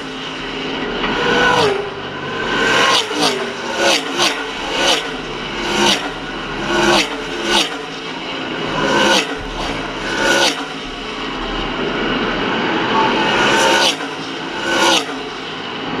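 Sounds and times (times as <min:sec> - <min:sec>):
race cars passing at speed: 0:00.0 - 0:16.0.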